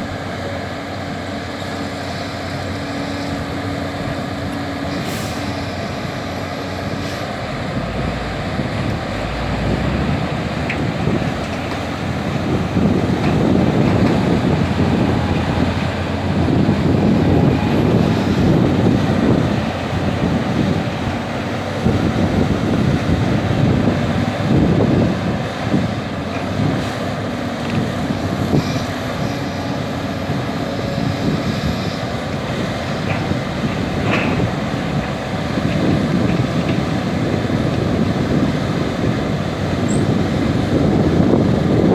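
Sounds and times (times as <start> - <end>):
excavator diesel engine rumbling: 0.0 - 41.9.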